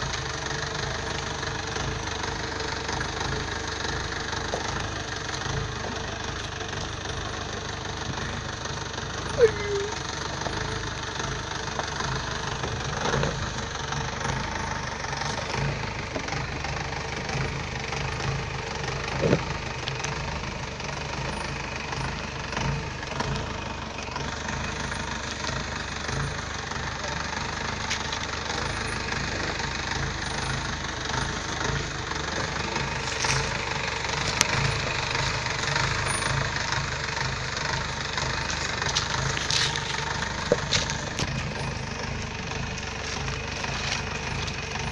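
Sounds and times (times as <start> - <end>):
jeep engine running at low revs: 0.0 - 44.9.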